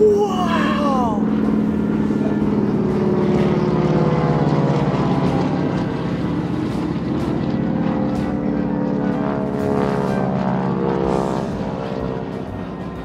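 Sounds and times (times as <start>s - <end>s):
jet aircraft engines droning: 0.0s - 13.0s.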